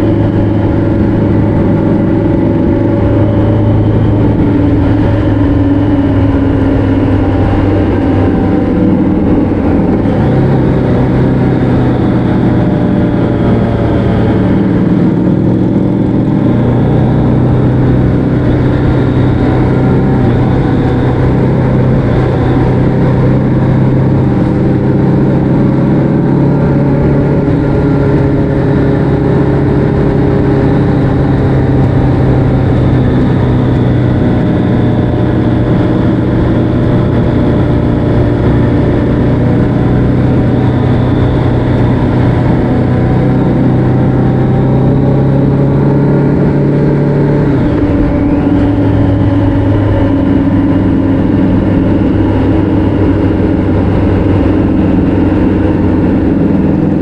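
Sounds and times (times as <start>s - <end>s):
road noise: 0.0s - 57.0s
vehicle engine running: 0.0s - 57.0s.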